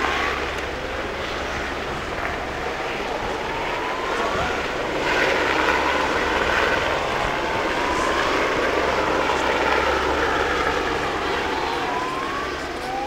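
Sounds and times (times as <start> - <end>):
helicopter flying overhead: 0.0 - 13.0.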